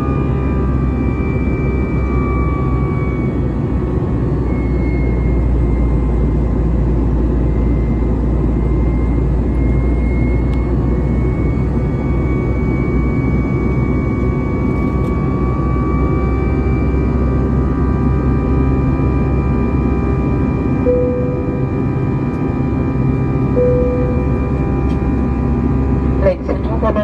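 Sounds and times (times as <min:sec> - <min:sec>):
faint whining tones: 0:00.0 - 0:27.0
jet engine roar in cabin: 0:00.0 - 0:27.0.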